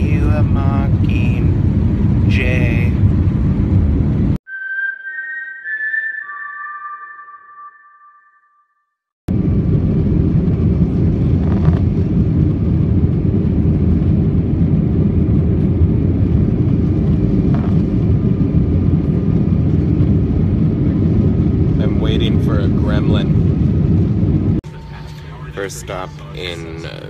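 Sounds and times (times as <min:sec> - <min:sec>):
airliner cabin rumble: 0:00.0 - 0:04.4, 0:09.3 - 0:27.0.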